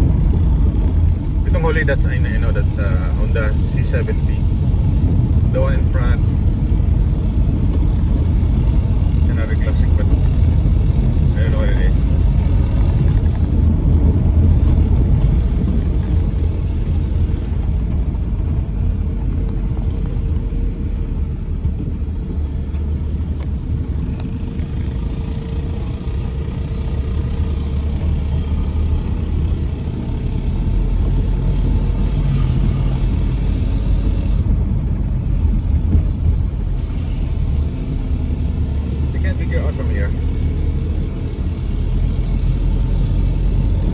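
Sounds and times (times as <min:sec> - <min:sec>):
engine and road noise in cabin: 0:00.0 - 0:43.9.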